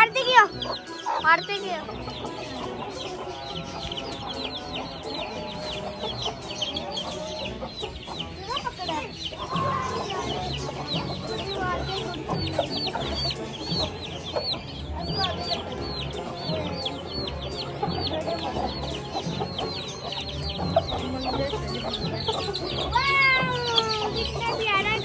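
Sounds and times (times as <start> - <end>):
baby chicks peeping: 0.0 - 25.0
hen clucking: 0.0 - 25.0.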